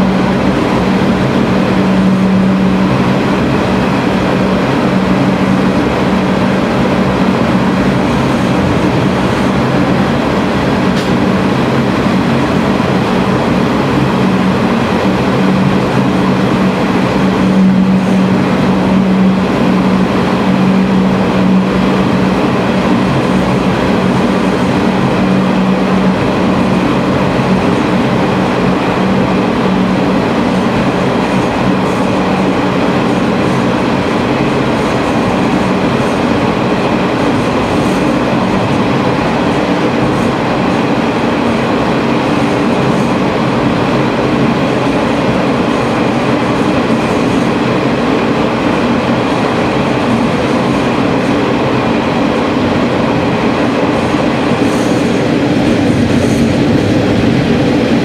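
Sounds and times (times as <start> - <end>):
diesel engine drone: 0.0 - 58.0
wheel-on-rail noise: 0.0 - 58.0.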